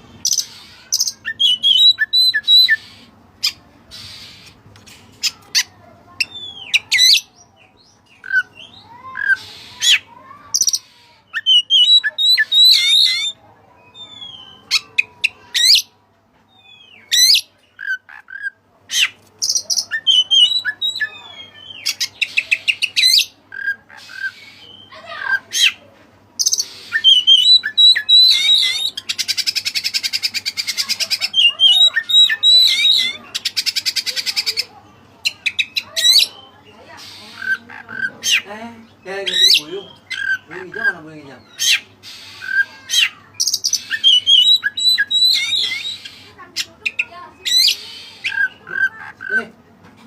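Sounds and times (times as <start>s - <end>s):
bird singing loudly: 0.2s - 4.5s, 6.2s - 15.9s, 16.6s - 25.8s, 26.4s - 34.7s, 35.3s - 49.4s.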